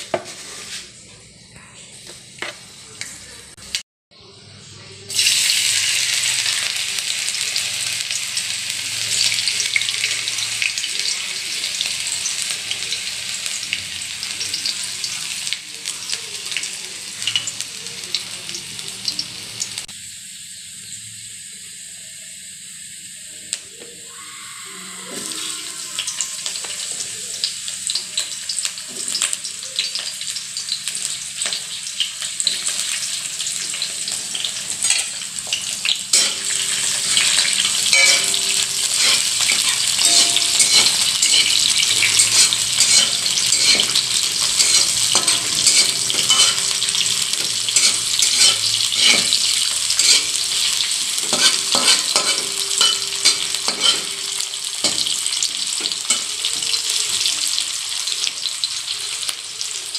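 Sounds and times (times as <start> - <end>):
oil sizzling in a wok: 5.0 - 59.9.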